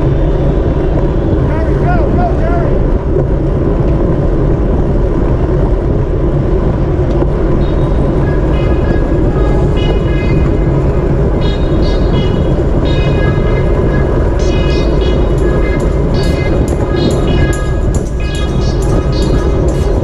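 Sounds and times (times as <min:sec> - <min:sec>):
bike road noise: 0:00.0 - 0:20.0
wind rush: 0:00.0 - 0:20.0.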